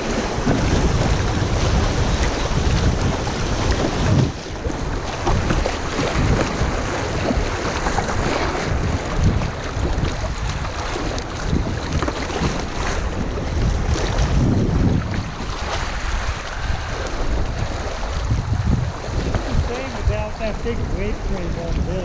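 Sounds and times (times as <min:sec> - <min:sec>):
river rapids splashing against hull: 0:00.0 - 0:22.0
wind buffeting microphone: 0:00.0 - 0:22.0.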